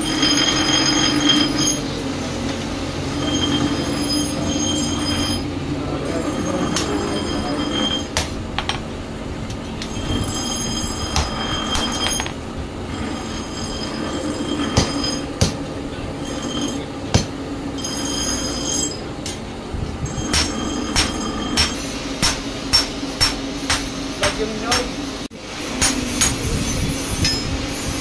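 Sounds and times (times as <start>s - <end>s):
hammer striking hot steel on anvil: 0.0s - 8.9s, 9.8s - 12.4s, 13.0s - 19.5s, 20.1s - 25.0s, 25.7s - 26.6s
high metallic ringing: 0.0s - 25.0s, 25.8s - 27.6s
steady background noise: 0.0s - 28.0s.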